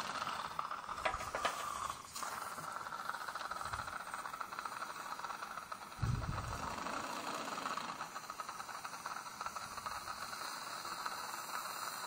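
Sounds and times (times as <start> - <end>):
surgical drill hiss: 0.0 - 12.0.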